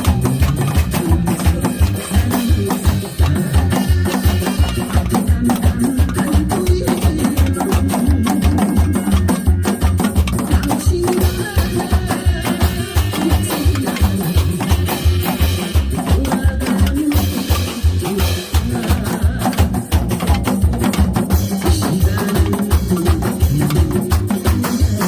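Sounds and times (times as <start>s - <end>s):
backing track with bass beat: 0.0s - 25.0s.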